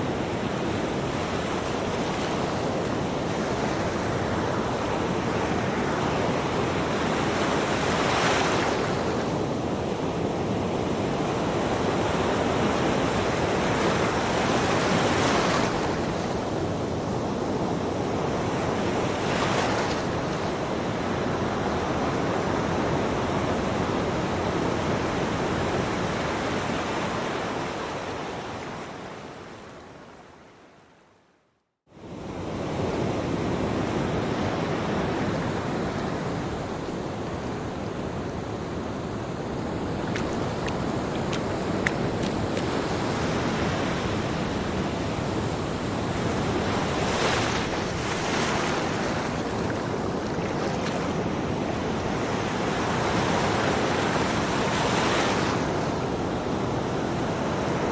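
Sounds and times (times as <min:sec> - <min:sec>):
ocean waves breaking on beach: 0:00.0 - 0:30.5, 0:31.9 - 0:57.9.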